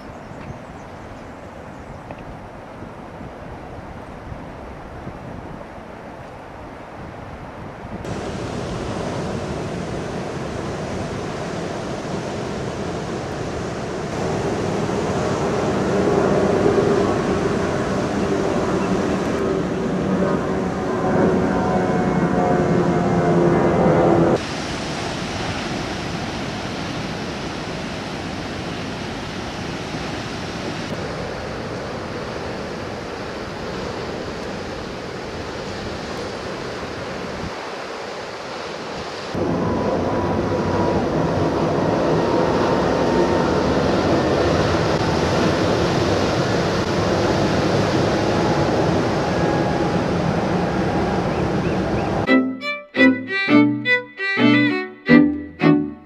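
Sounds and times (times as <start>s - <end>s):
wind: 0.0s - 56.0s
ocean surf: 2.3s - 23.0s, 23.6s - 56.0s.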